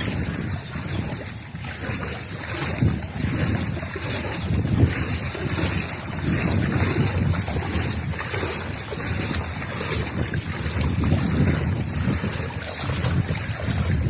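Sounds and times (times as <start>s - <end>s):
floodwater rushing: 0.0s - 14.0s
wind buffeting microphone: 0.0s - 14.0s.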